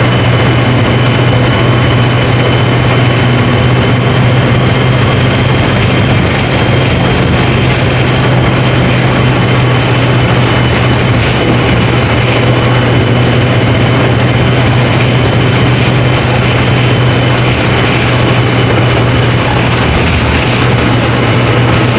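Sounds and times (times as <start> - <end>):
bus diesel engine humming: 0.0 - 21.9
road noise: 0.0 - 21.9.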